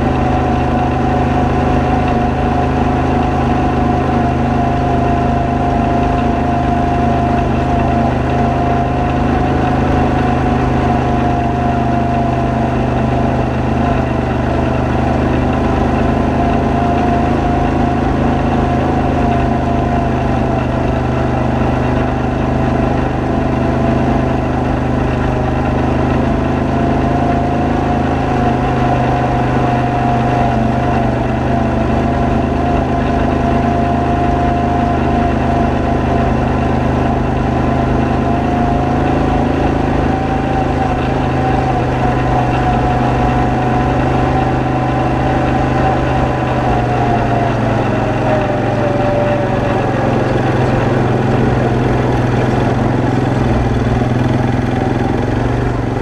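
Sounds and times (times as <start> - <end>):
atv engine running: 0.0 - 56.0
high wavering whine: 0.0 - 56.0.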